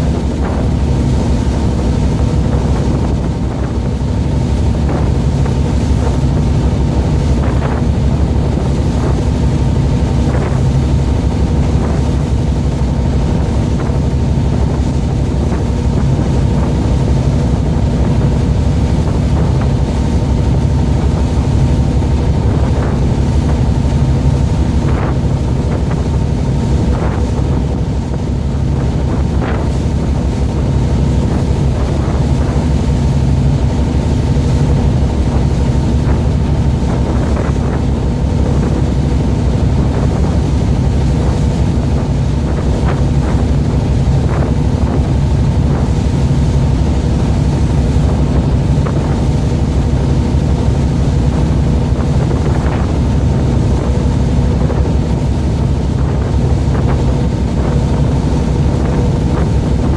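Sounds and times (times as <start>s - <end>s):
boat engine running: 0.0s - 59.9s
wind buffeting microphone: 0.0s - 59.9s.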